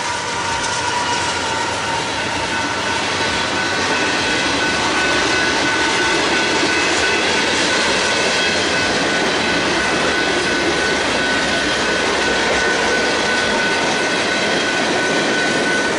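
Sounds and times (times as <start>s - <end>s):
freight train wheels rumbling on rail: 0.0s - 15.9s.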